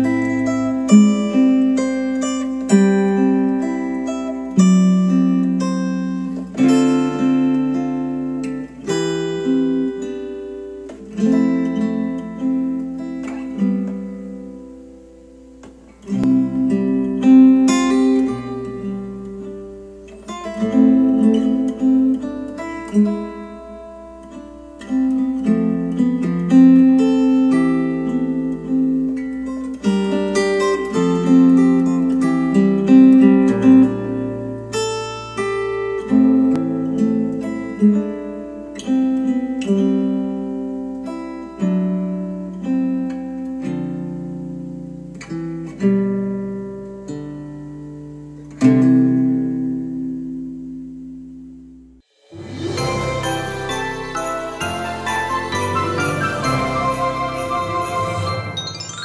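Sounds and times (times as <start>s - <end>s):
acoustic guitar strummed chords: 0.0s - 59.0s.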